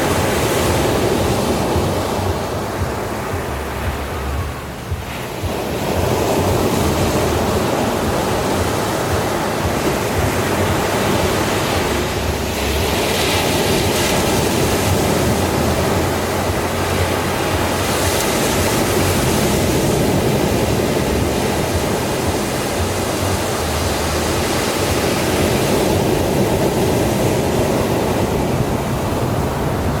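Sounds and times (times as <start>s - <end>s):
sea waves breaking: 0.0s - 30.0s.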